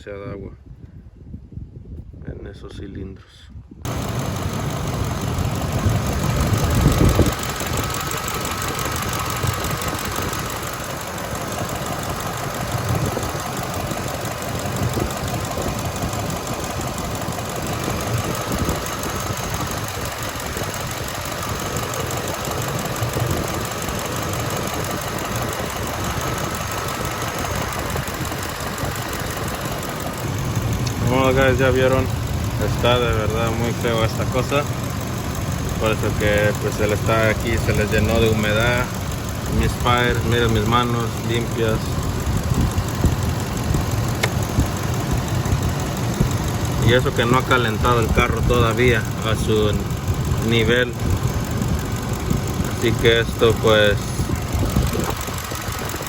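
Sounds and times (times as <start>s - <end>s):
engine idling: 3.8s - 56.0s.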